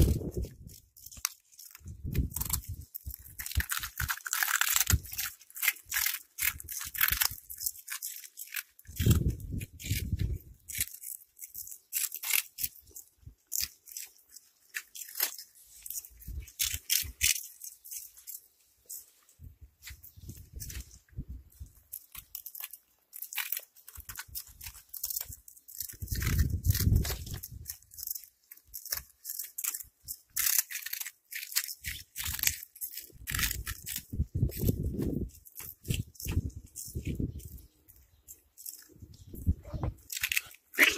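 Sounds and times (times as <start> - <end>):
cats crunching snacks: 0.0 - 19.2, 19.8 - 40.9.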